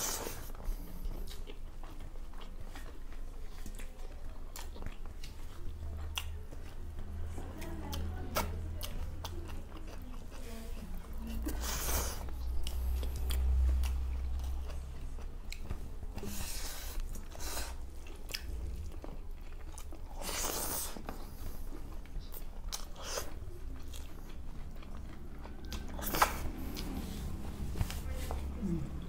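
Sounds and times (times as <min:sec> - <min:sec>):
wet chewing and lip smacking: 0:00.0 - 0:27.2.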